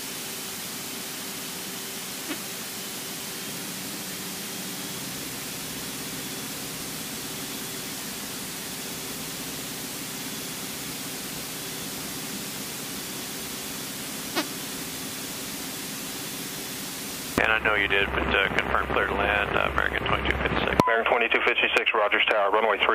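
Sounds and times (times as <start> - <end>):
faint engine hum: 0.0 - 22.7.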